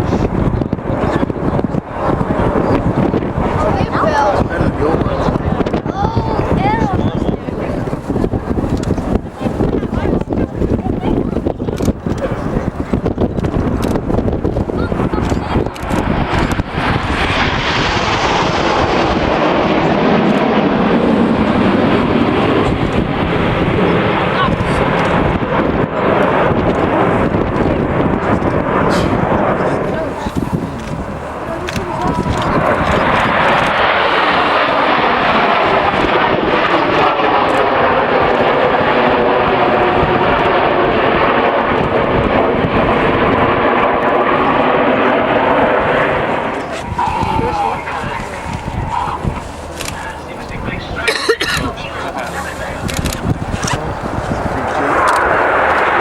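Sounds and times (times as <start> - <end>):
jets passing overhead: 0.0 - 56.0.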